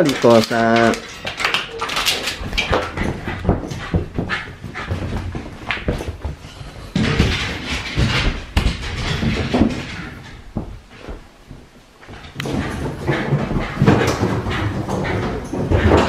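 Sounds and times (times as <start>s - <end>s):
dog footsteps on floor: 0.0s - 16.0s.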